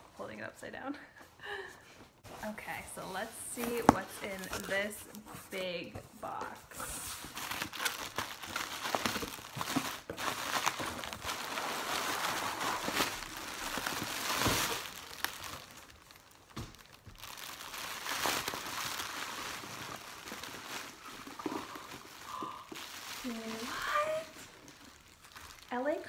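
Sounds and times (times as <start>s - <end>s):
bubble wrap crinkling: 2.2s - 26.0s.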